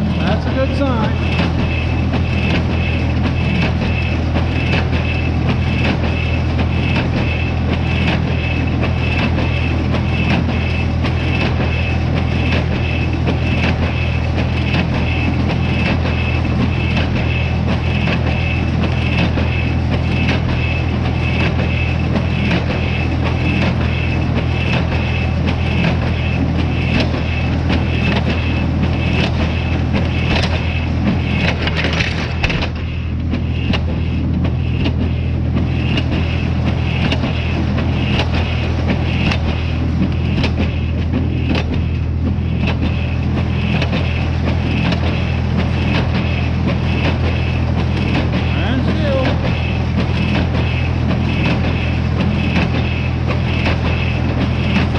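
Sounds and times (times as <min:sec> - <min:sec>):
steady high whine: 0:00.0 - 0:54.9
tractor engine running: 0:00.0 - 0:54.9.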